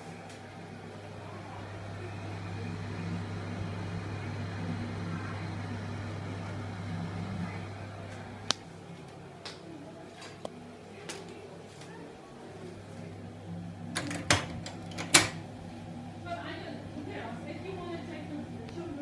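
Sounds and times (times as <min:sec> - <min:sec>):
exhaust fan motor hum: 0:00.0 - 0:19.0.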